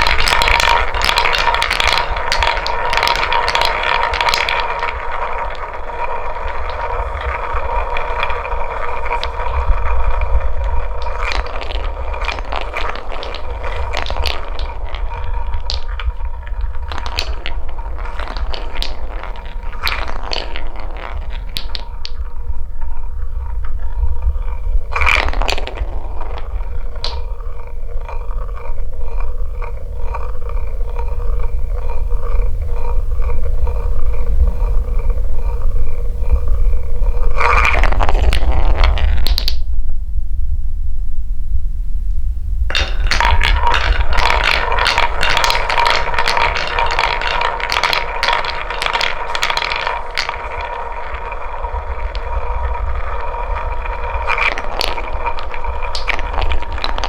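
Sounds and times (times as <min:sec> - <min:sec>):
marbles clicking and clacking: 0:00.0 - 0:39.7, 0:42.7 - 0:57.0
marbles rolling on wooden track: 0:00.0 - 0:39.7, 0:42.7 - 0:57.0.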